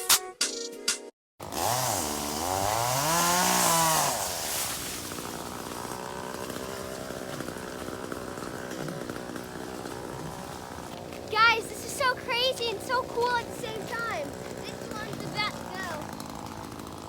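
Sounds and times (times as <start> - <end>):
chainsaw revving: 1.4 - 17.0.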